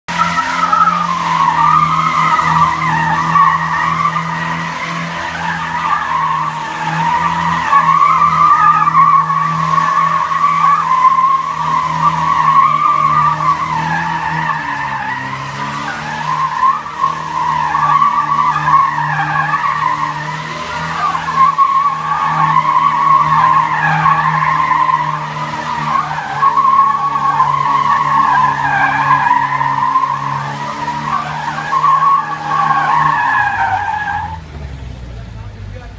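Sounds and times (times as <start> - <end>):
car engine: 0.0 - 35.9
car tyres squealing: 0.1 - 35.9.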